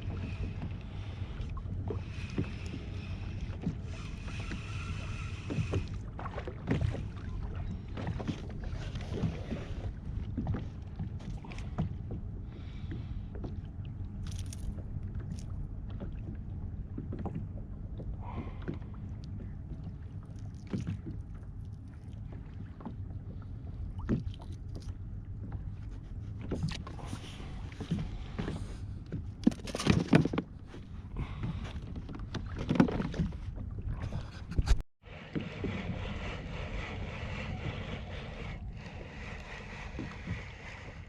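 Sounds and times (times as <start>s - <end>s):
water sloshing against hull: 0.0s - 41.0s.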